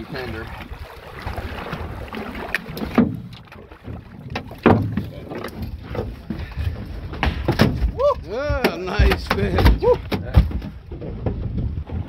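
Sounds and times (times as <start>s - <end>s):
water splashing: 0.0s - 12.0s
wind rumble on microphone: 0.0s - 12.0s
fish thumping in boat: 0.5s - 12.0s.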